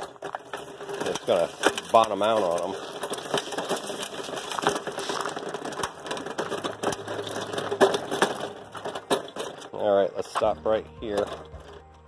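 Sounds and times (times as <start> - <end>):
footsteps on gravel: 0.0 - 12.0
wheels crunching on gravel: 0.0 - 12.0.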